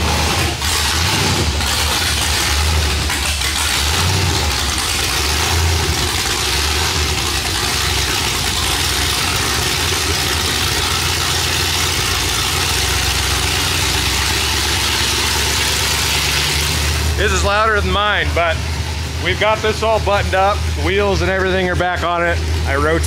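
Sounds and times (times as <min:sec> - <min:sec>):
engine idling with open headers: 0:00.0 - 0:23.0.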